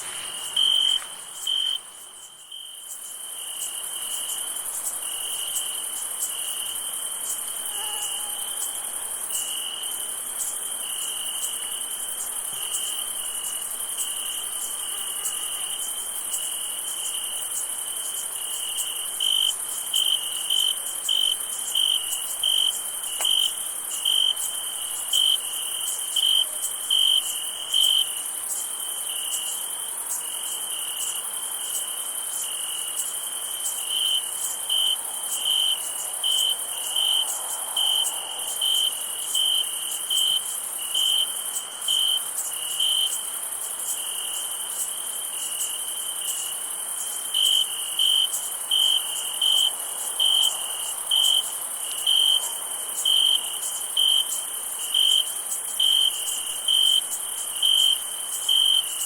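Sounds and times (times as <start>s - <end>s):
close cricket chirping: 0.0s - 59.0s
crickets chirping: 0.0s - 59.0s
high insect trill: 0.0s - 59.0s.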